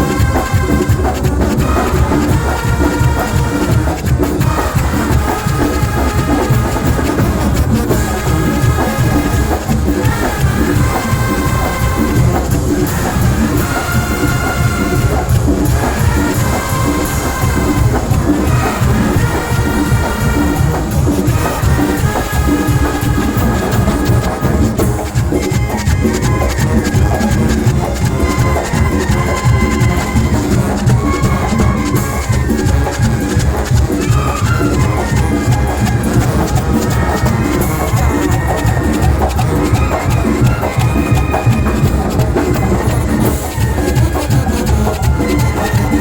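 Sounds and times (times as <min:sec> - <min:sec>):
bass line: 0:00.0 - 0:46.0
brass bands playing: 0:00.0 - 0:46.0
steady drum beat: 0:00.0 - 0:46.0.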